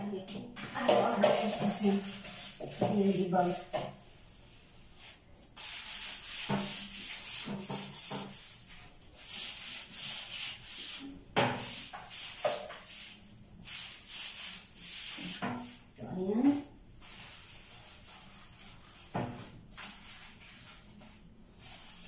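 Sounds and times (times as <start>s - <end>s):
sponge scrubbing a bathtub: 0.1s - 22.0s.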